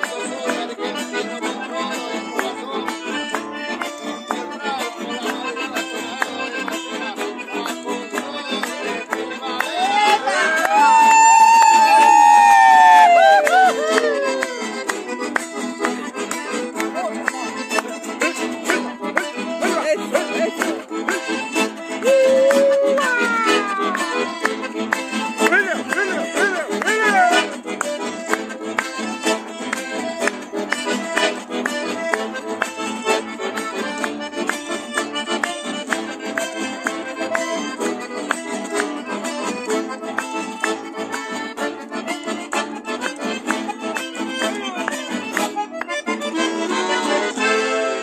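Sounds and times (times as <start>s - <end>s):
accordion playing: 0.0s - 48.0s
acoustic guitars strumming: 0.0s - 48.0s.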